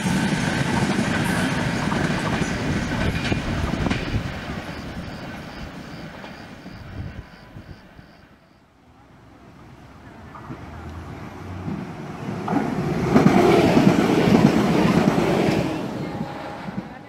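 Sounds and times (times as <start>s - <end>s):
passenger train passing: 0.0s - 17.0s.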